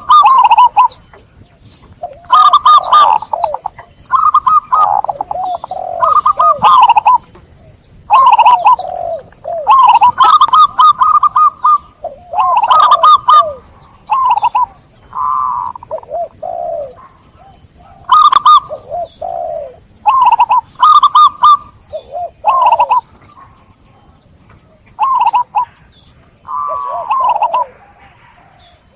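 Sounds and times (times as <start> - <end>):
dove cooing: 0.0 - 28.9.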